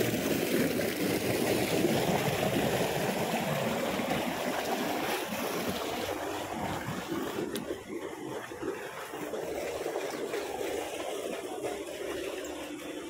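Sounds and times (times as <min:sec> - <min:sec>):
water running through a channel: 0:00.0 - 0:13.0.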